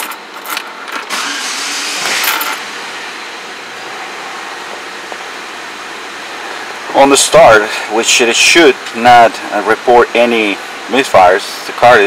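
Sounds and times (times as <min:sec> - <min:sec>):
car engine cranking and idling: 0:00.0 - 0:11.8.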